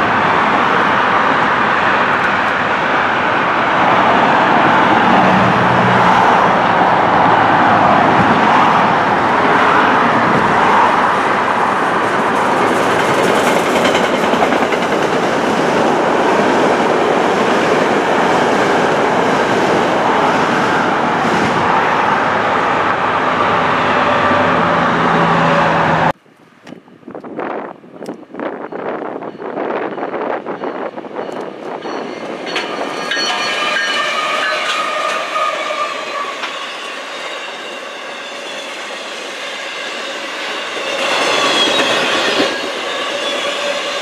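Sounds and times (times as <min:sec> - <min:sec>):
train wheels rushing on rails: 0:00.0 - 0:26.1, 0:27.4 - 0:44.0.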